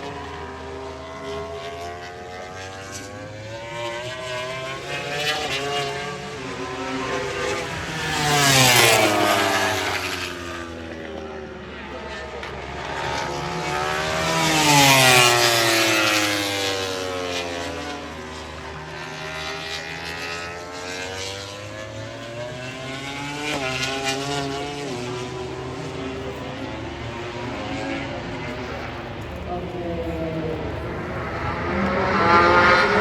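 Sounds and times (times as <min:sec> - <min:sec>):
race bike passing at speed: 0:00.0 - 0:33.0.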